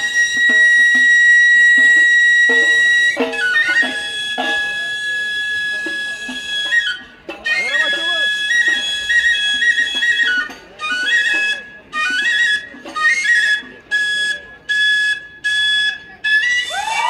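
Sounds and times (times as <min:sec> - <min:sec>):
flute playing slow melody: 0:00.0 - 0:17.0.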